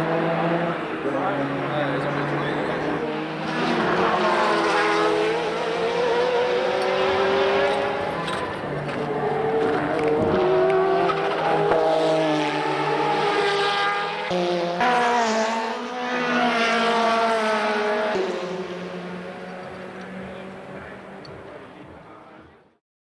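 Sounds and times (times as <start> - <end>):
race car engines: 0.0 - 22.8.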